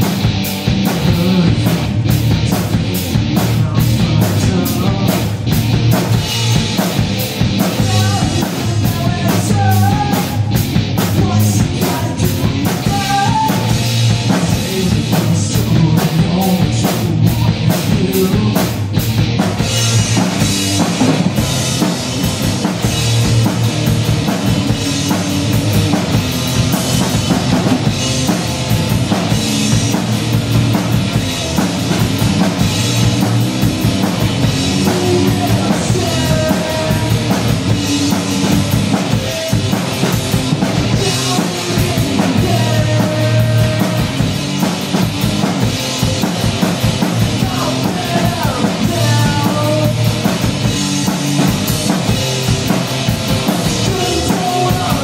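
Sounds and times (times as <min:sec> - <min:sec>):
punk rock band playing live: 0:00.0 - 0:55.0.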